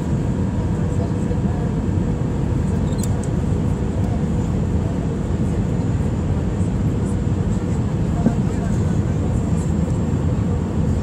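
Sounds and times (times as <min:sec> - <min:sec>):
faint steady whine: 0:00.0 - 0:11.0
jet engines rumbling: 0:00.0 - 0:11.0.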